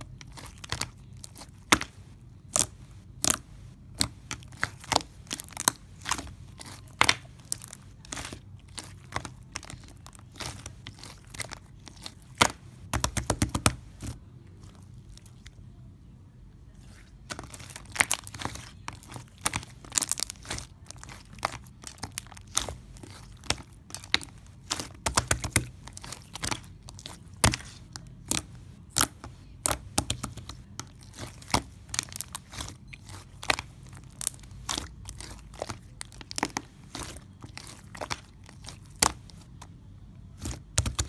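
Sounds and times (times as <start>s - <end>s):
close-up crunching and crackling: 0.0s - 15.9s, 16.7s - 41.0s.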